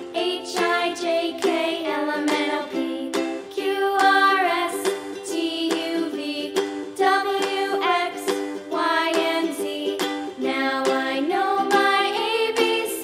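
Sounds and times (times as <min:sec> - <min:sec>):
plucked-string background music: 0:00.0 - 0:13.0.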